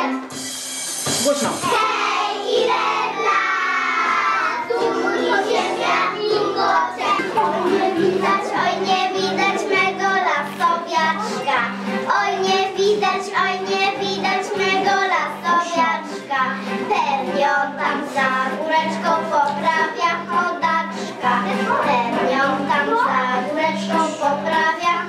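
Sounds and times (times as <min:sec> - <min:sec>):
instrumental accompaniment with beat: 0:00.0 - 0:25.0
children singing together: 0:01.7 - 0:25.0.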